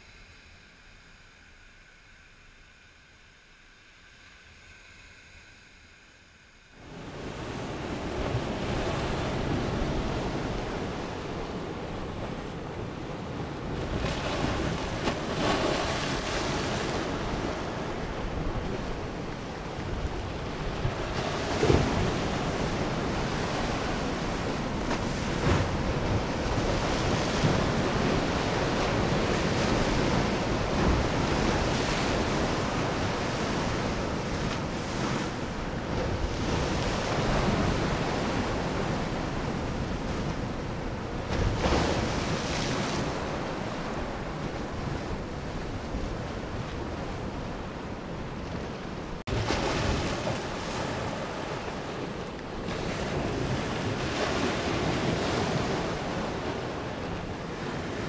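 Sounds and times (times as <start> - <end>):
waves crashing on rocks: 6.8 - 58.0
wind buffeting microphone: 6.8 - 58.0.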